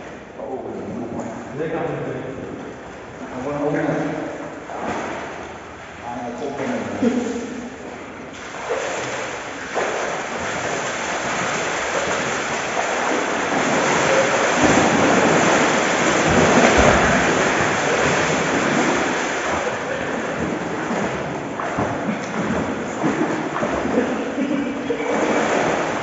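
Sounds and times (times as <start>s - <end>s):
swimmers splashing water: 0.0s - 26.0s.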